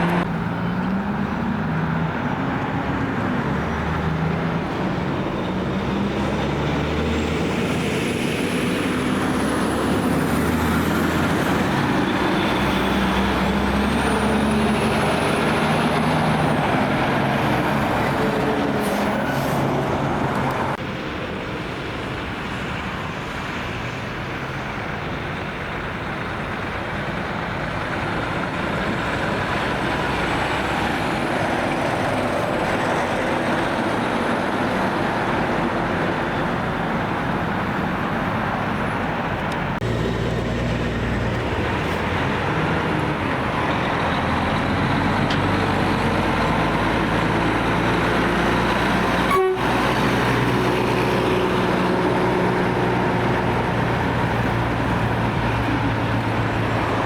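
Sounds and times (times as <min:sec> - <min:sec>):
diesel engine drone: 0:00.0 - 0:57.0
trucks rolling past: 0:00.0 - 0:57.0.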